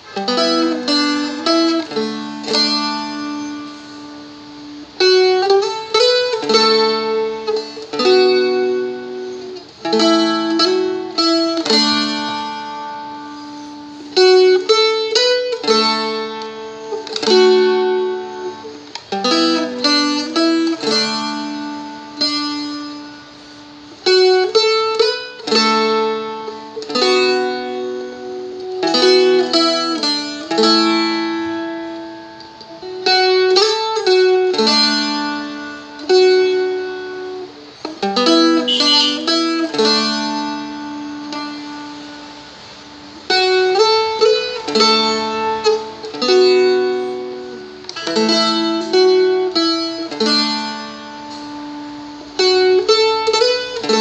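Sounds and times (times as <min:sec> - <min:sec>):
strumstick melody and chords: 0:00.0 - 0:54.0.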